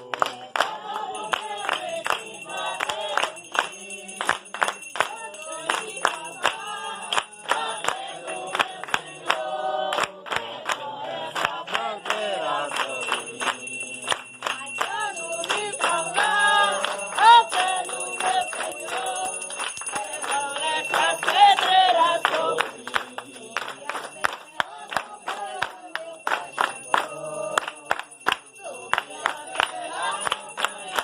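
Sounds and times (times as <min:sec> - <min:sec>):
group of voices singing: 0:00.0 - 0:31.0.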